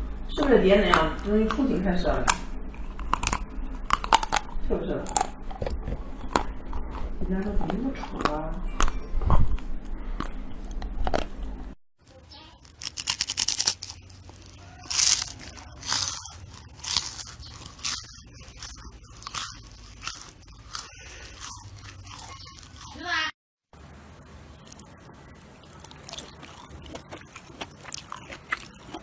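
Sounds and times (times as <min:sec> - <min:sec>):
crunching: 0:00.3 - 0:23.1, 0:25.7 - 0:29.0.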